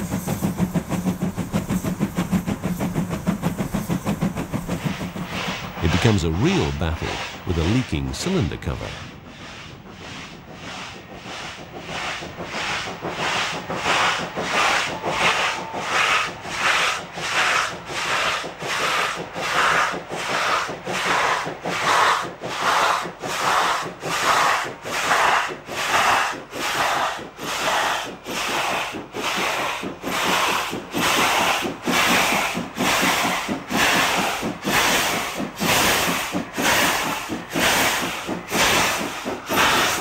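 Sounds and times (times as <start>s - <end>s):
steam locomotive exhaust beats: 0.0s - 40.0s.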